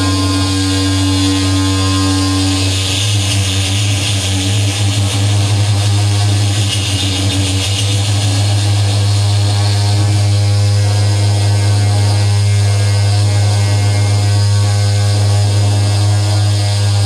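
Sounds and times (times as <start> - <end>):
low electronic hum: 0.0 - 17.0.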